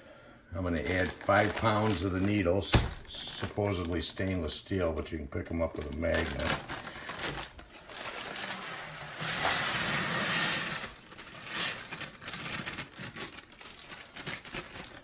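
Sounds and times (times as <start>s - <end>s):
plastic bag crinkling: 0.7s - 4.5s, 5.6s - 15.0s.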